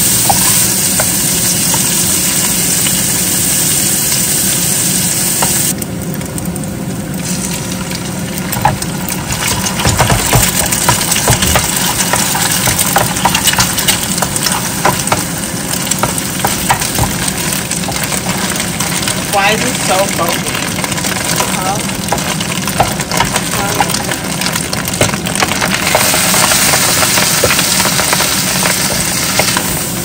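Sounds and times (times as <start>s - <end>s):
bacon sizzling in a frying pan: 0.0s - 30.0s
fat crackling: 0.0s - 30.0s.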